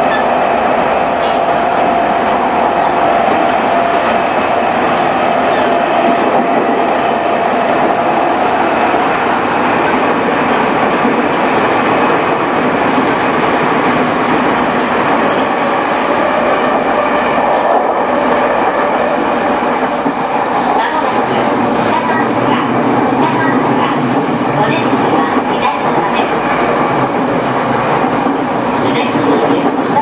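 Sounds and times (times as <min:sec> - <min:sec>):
train wheels running: 0:00.0 - 0:30.0.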